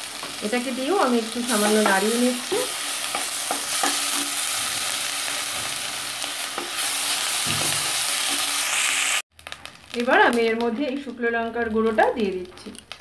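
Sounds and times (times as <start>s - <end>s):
paste sizzling in hot oil: 0.0s - 10.4s.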